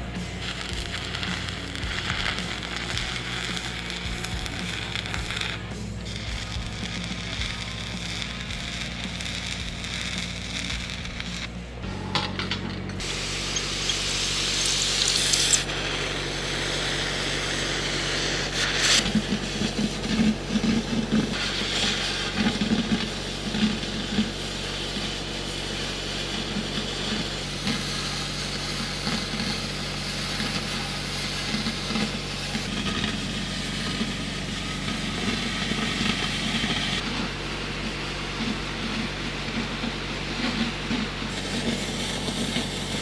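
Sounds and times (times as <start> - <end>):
welding arc crackling and sizzling: 0.0 - 11.8, 12.9 - 43.0
welder engine humming: 0.0 - 43.0.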